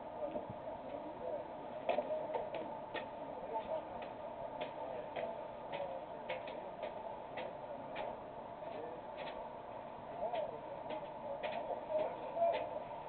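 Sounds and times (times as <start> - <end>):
murmur of distant voices: 0.0 - 13.0
faint regular ticking: 1.9 - 12.8.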